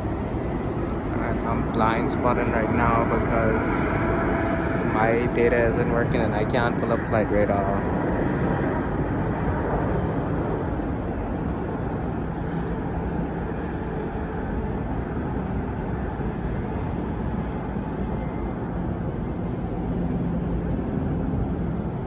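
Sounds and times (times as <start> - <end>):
jet airliner engines roaring: 0.0 - 22.0.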